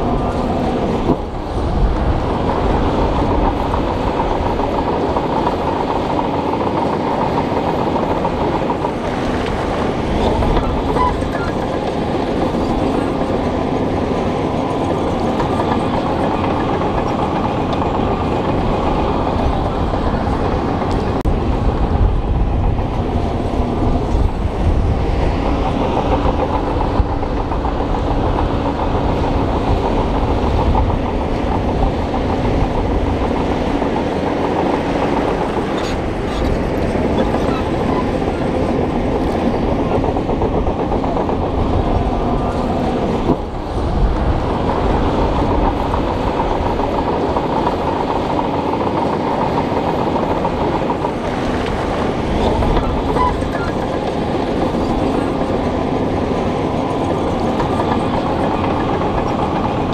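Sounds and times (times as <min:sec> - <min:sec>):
diesel engine under load: 0:00.0 - 0:59.9
steel tracks clanking: 0:00.0 - 0:59.9.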